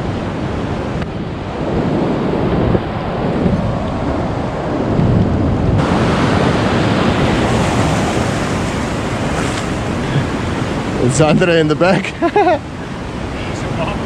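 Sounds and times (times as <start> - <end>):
surf breaking in shallow water: 0.0 - 14.0
wind buffeting microphone: 0.0 - 14.0.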